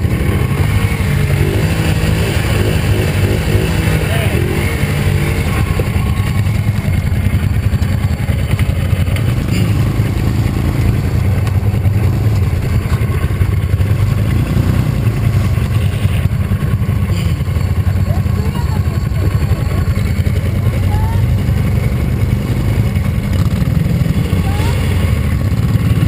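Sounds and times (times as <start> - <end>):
quad engine running: 0.0 - 26.0.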